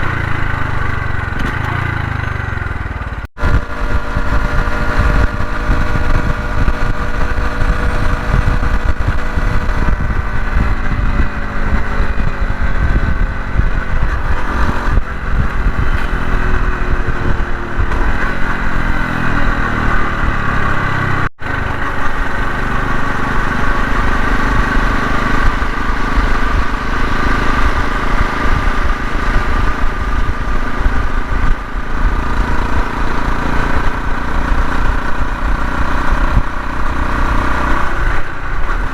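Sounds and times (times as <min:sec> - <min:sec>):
motorcycle engine running: 0:00.0 - 0:38.9
wind buffeting microphone: 0:03.4 - 0:38.9.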